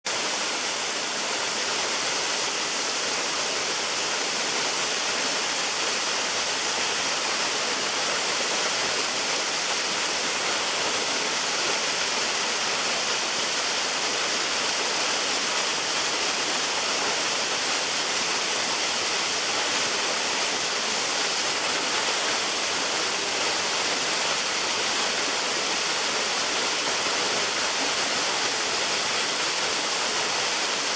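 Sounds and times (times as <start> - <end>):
waterfall rushing: 0.1 - 30.9.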